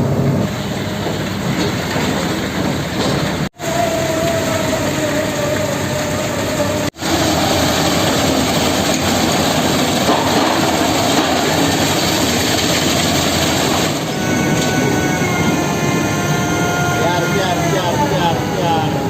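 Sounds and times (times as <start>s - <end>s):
mini excavator running: 0.0s - 19.0s.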